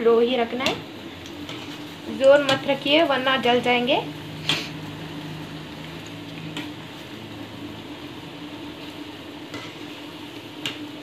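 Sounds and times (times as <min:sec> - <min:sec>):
dough balls sizzling in hot oil: 0:00.0 - 0:11.0.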